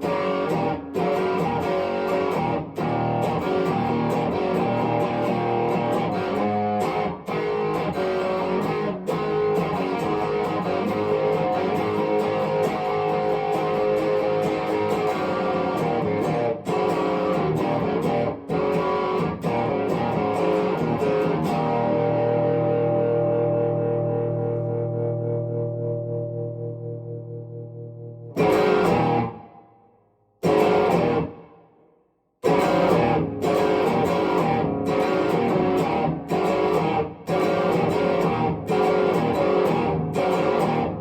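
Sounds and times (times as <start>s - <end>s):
electric guitar playing: 0.0s - 29.7s, 30.4s - 31.5s, 32.4s - 41.0s.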